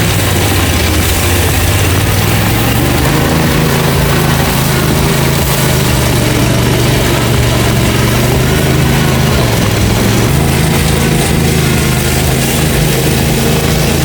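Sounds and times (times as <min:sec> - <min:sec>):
mower engine running: 0:00.0 - 0:14.0.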